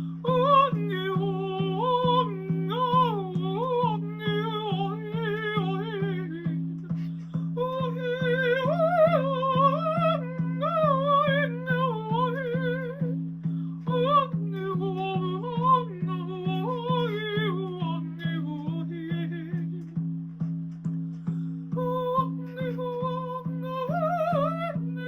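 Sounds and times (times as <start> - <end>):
woman singing wordlessly: 0.0 - 20.1, 21.7 - 25.0.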